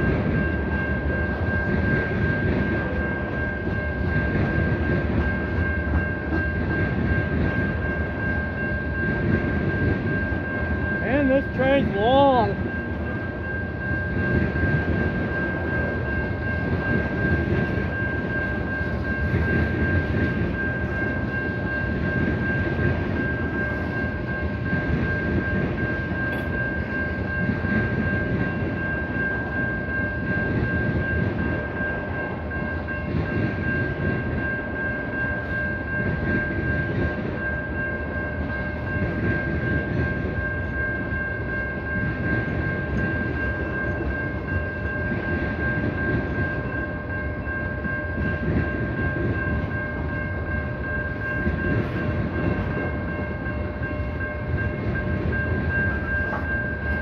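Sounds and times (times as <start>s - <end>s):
high ringing tone: 0.0s - 57.0s
train wheels clattering on rails: 0.0s - 57.0s.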